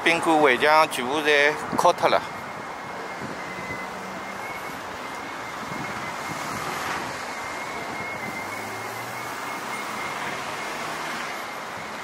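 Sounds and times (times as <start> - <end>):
cars passing on street: 0.0 - 12.0.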